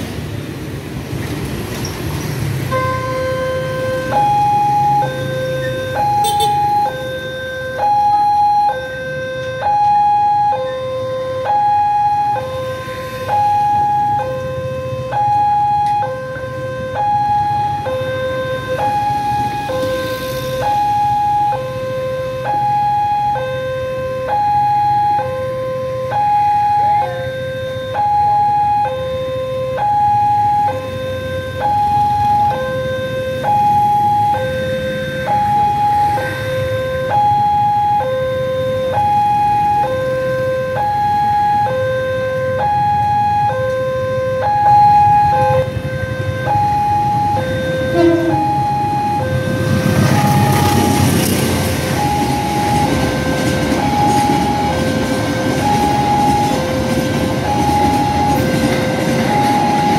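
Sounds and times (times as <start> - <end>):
level crossing alarm two-tone: 2.7 - 59.9.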